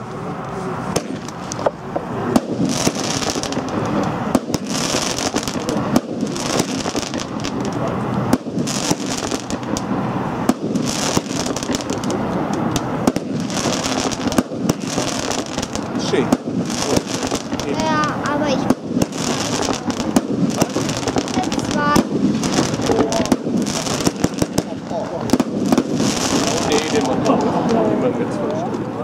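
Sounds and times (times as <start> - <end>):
fireworks bangs: 0.0 - 28.6
fireworks crackling hiss: 0.0 - 29.0.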